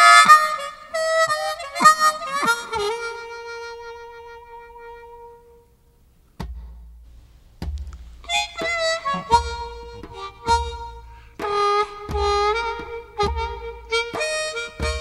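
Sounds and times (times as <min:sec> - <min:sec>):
harmonica playing slow tune: 0:00.0 - 0:05.8, 0:08.2 - 0:15.0.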